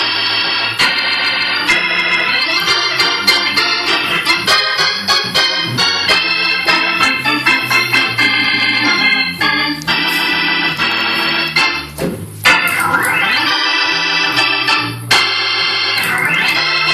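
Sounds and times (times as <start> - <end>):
organ jazz-blues solo: 0.0 - 16.9.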